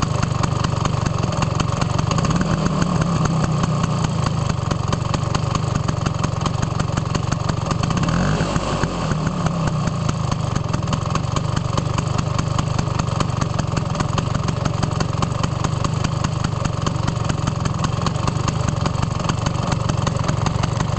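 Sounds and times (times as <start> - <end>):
scooter engine idling: 0.0 - 20.9.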